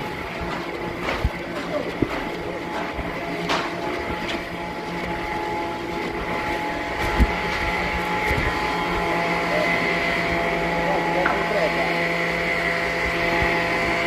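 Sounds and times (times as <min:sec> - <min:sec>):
sawmill machinery motor hum: 0:00.0 - 0:14.0.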